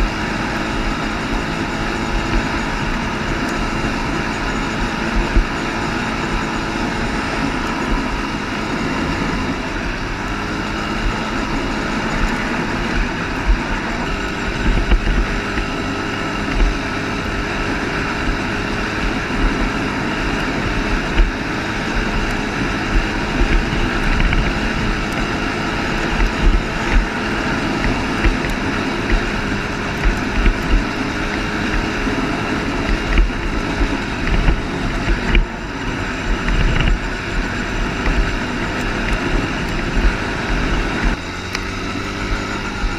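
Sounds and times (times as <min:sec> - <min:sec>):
atv engine running: 0:00.0 - 0:42.9
wind buffeting microphone: 0:00.0 - 0:42.9.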